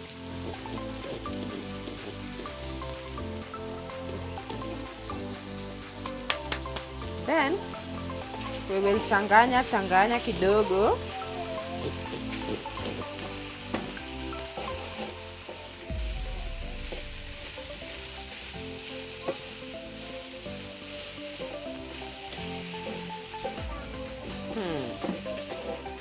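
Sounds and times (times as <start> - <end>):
background music: 0.0 - 26.0
chicken sizzling in a pan: 0.0 - 26.0.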